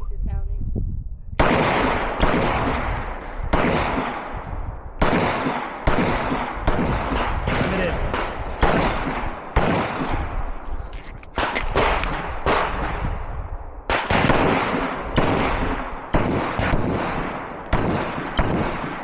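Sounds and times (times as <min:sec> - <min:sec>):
echoing pistol shots: 0:01.4 - 0:10.7, 0:11.3 - 0:19.0.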